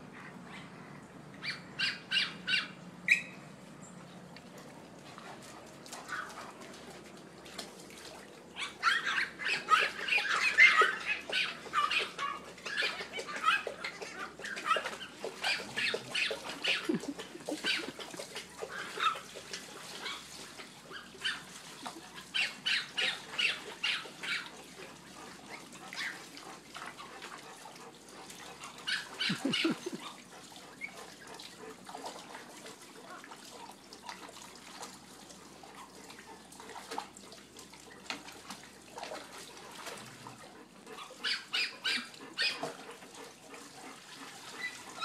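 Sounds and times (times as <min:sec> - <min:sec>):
water splashing in pool: 0:04.1 - 0:45.0.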